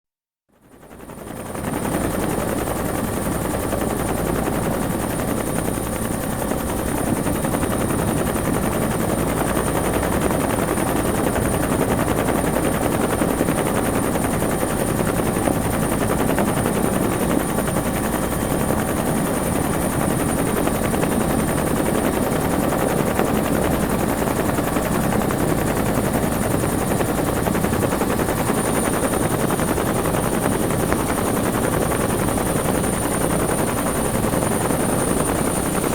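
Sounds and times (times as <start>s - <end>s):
helicopter rotor chop: 1.3s - 35.9s.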